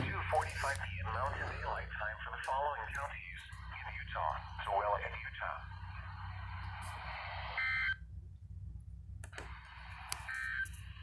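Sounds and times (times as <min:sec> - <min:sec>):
radio hiss: 0:00.0 - 0:07.7, 0:09.4 - 0:11.0.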